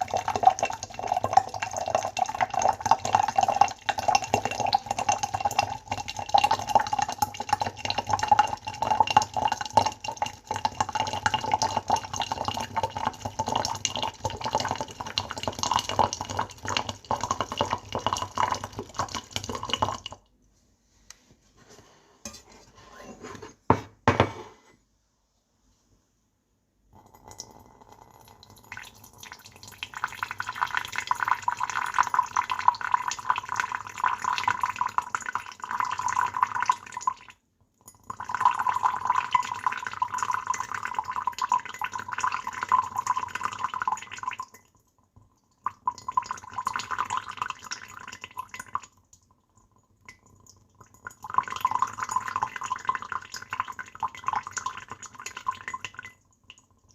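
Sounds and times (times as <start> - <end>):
water pouring into a vessel: 0.0 - 20.3, 27.0 - 56.9.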